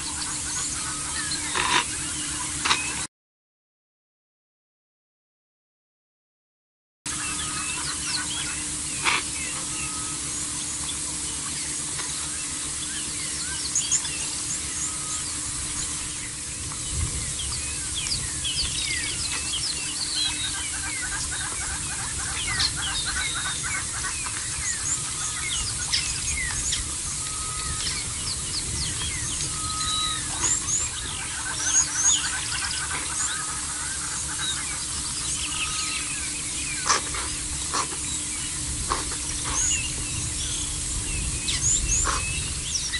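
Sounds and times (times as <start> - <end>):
small birds chirping: 0.0 - 3.1, 7.1 - 42.9.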